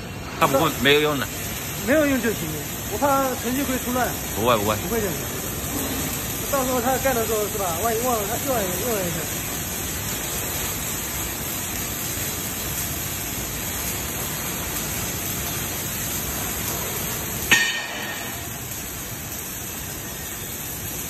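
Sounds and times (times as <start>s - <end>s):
welding arc hiss: 0.0s - 21.0s.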